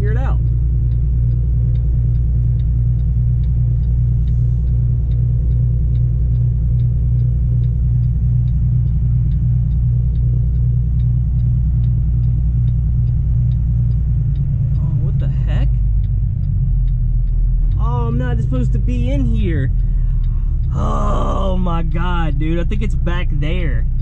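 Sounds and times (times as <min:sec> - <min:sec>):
diesel truck engine rumble: 0:00.0 - 0:24.0
light regular ticking: 0:00.0 - 0:24.0.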